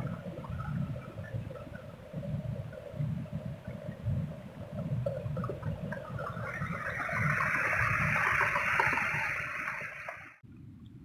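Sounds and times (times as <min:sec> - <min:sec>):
water rushing over rocks: 0:00.0 - 0:10.4
low uneven rumble: 0:00.0 - 0:11.0.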